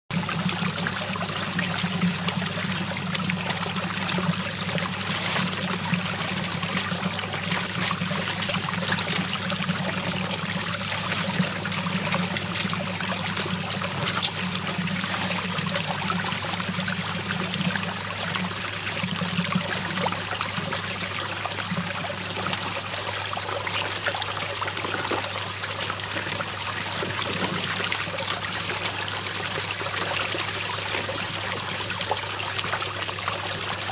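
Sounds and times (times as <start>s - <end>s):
water swirling and draining: 0.1s - 33.9s.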